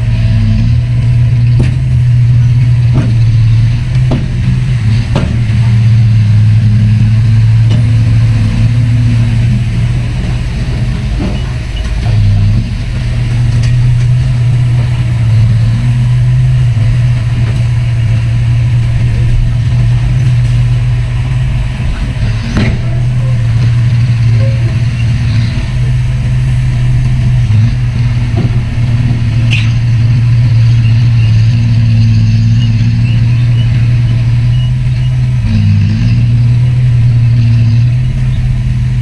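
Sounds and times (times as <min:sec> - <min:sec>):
heavy diesel engine droning: 0:00.0 - 0:39.0.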